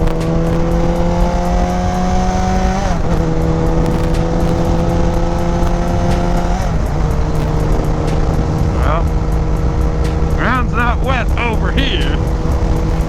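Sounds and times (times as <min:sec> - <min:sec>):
gear upshift: 0:00.0 - 0:13.0
motorcycle engine accelerating: 0:00.0 - 0:13.0
wind noise on microphone: 0:00.0 - 0:13.0.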